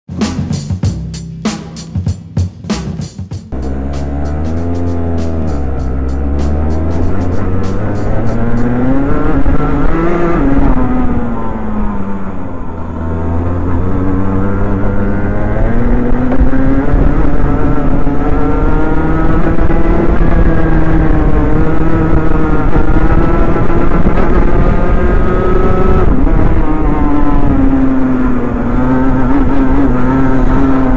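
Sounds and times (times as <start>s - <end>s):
two-stroke kart engine revving: 3.5s - 30.9s.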